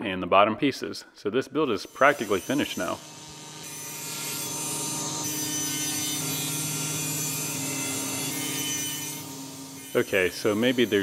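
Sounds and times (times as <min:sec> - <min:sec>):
saw blade cutting plywood: 0:01.8 - 0:11.0
table saw motor hum: 0:01.8 - 0:11.0.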